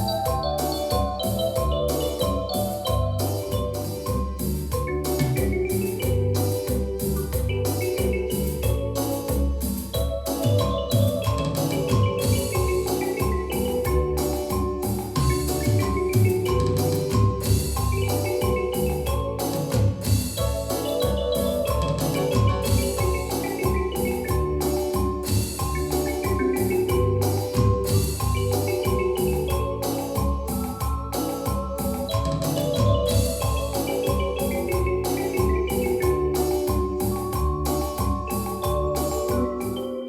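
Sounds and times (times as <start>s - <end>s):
steady beat: 0.0s - 39.9s
synthesizer playing percussive notes: 0.0s - 40.0s.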